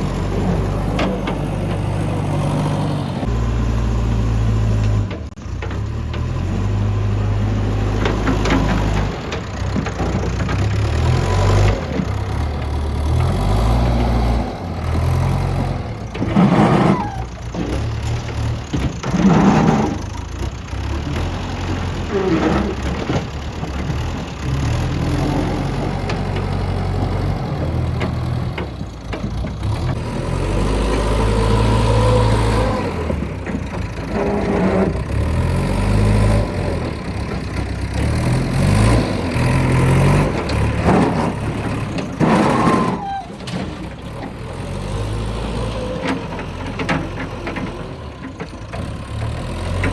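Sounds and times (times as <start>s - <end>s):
diesel engine working under load: 0.0s - 49.9s.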